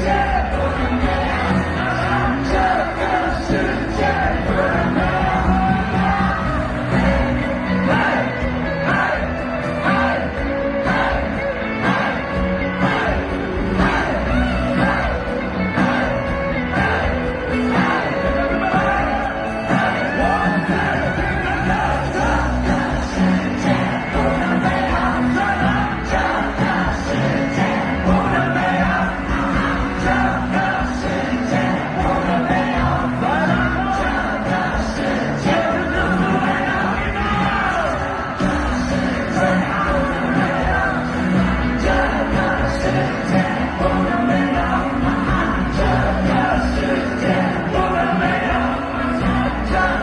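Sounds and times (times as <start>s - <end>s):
audience shouting and cheering: 0.0s - 50.0s
live band music over loudspeakers: 0.0s - 50.0s.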